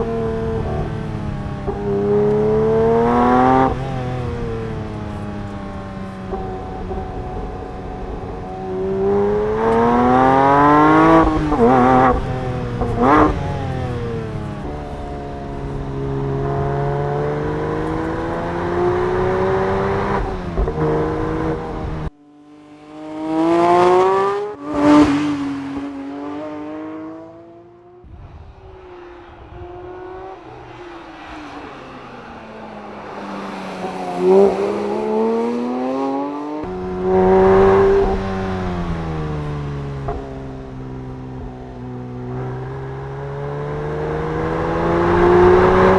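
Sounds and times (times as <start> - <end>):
quieter engine with sinking pitch: 0.0 - 35.9, 36.6 - 45.9
car rushing past: 0.0 - 45.9
sports car engine accelerating: 0.0 - 45.9.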